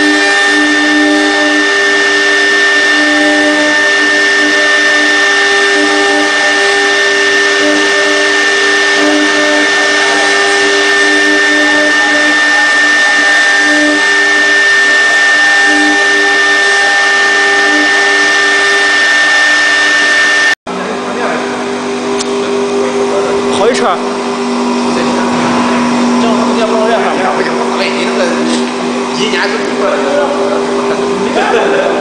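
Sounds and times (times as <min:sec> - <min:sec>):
low hums: 0:00.0 - 0:32.0
router spindle whining: 0:00.0 - 0:32.0.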